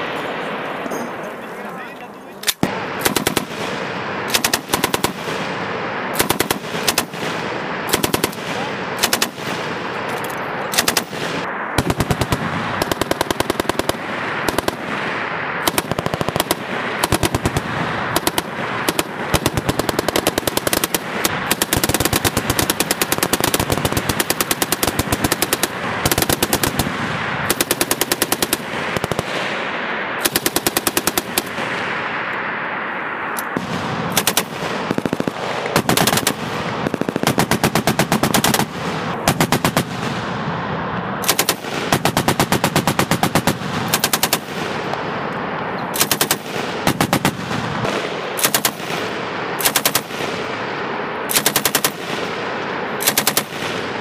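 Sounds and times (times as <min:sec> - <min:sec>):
machine guns firing bursts: 0:02.6 - 0:29.6, 0:30.2 - 0:31.9, 0:33.5 - 0:40.3, 0:41.2 - 0:44.9, 0:45.9 - 0:54.0.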